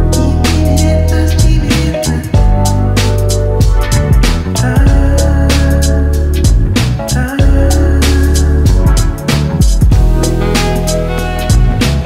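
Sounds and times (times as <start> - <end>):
music with drums and bass: 0.0 - 12.0.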